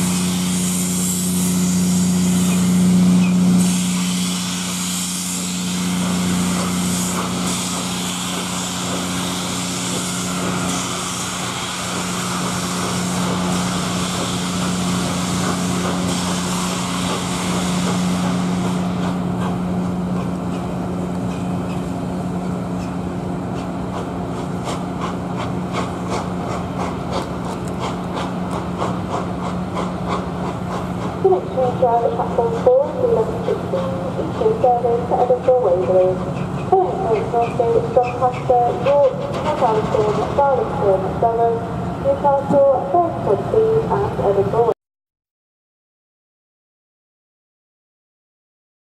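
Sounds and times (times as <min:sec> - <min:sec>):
steam hissing: 0:00.0 - 0:22.9, 0:23.5 - 0:40.9
steam locomotive chuffing beats: 0:00.0 - 0:43.6.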